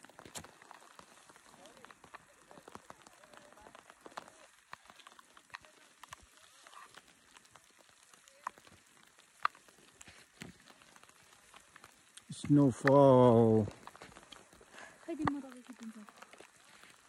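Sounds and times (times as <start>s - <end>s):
snow pattering on clothing: 0.0s - 17.0s.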